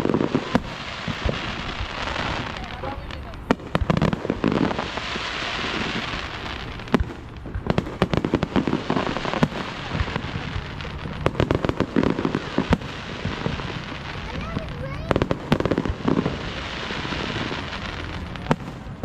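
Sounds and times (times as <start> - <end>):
fireworks hissing: 0.0 - 19.0
fireworks popping and crackling: 0.0 - 19.0.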